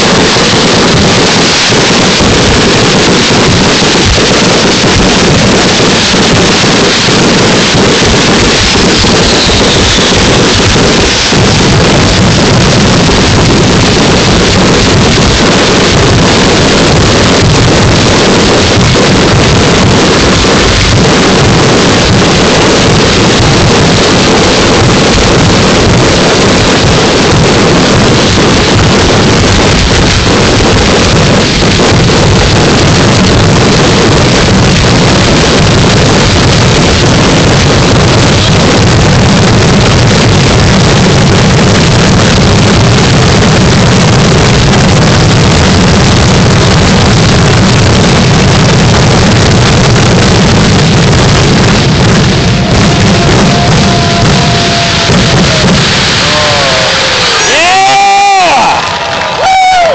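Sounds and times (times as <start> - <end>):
fireworks barrage: 0.0 - 59.9.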